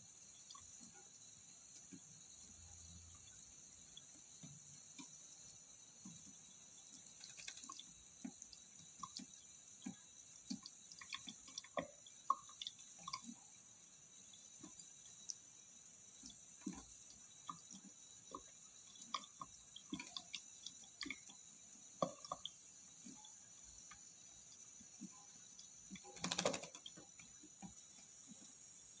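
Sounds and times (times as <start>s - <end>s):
water dripping and splashing: 0.0s - 29.0s.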